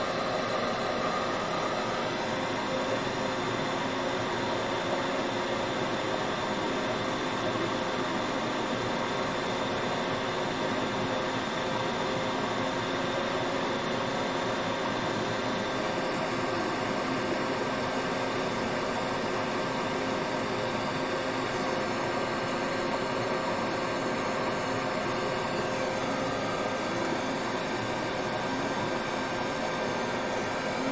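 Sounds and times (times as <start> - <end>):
fan blowing hiss and hum: 0.0 - 30.9.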